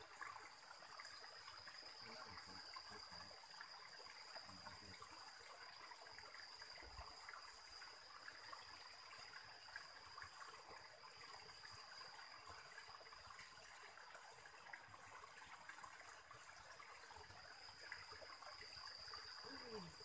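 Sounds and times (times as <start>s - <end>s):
stream water trickling over rocks: 0.0s - 20.0s.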